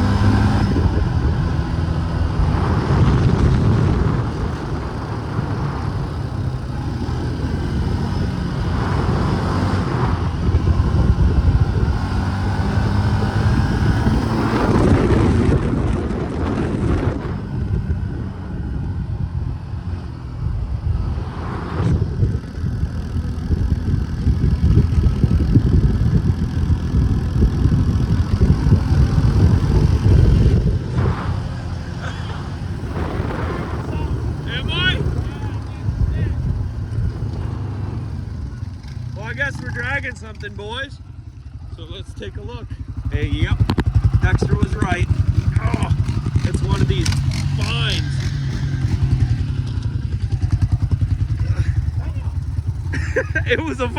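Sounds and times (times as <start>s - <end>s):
wind rushing: 0.0s - 39.5s, 42.8s - 52.8s
atv engine running: 0.0s - 53.9s.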